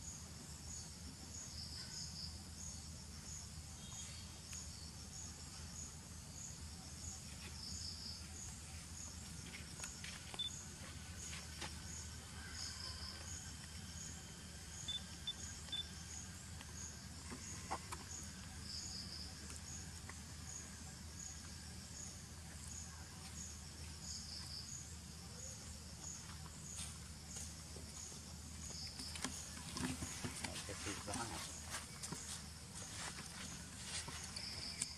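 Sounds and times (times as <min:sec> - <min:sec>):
insect chirping: 0:00.0 - 0:34.9
insect trills: 0:00.0 - 0:34.9.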